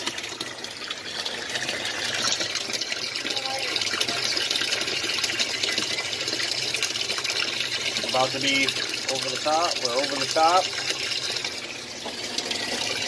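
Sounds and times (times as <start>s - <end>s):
water gushing into pool: 0.0s - 13.0s.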